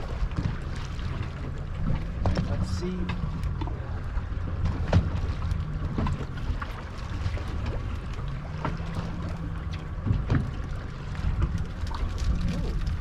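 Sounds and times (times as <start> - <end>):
wind and water noise: 0.0 - 13.0.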